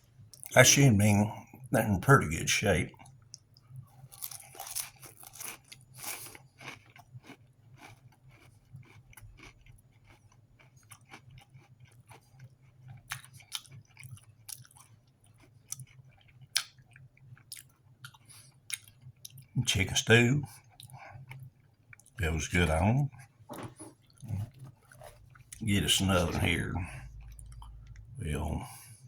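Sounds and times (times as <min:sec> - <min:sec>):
person chewing crunchy crackers: 0:03.0 - 0:28.9.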